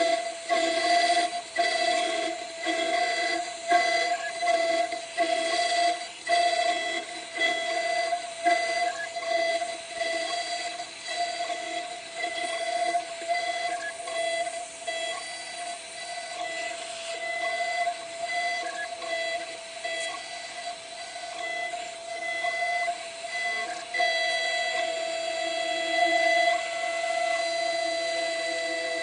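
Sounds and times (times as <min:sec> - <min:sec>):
motor tones switching: 0:00.0 - 0:29.0
router high whine: 0:00.0 - 0:29.0.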